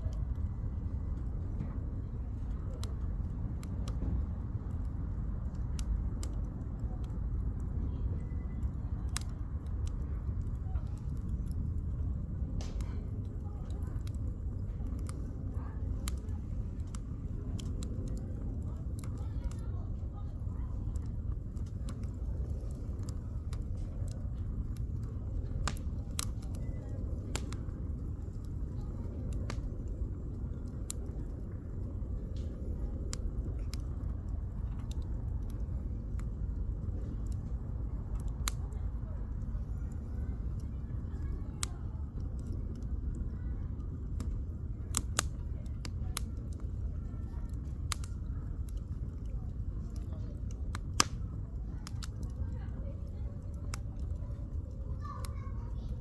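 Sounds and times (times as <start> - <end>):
campfire crackling and popping: 0.0 - 56.0
steady low rumble: 0.0 - 56.0.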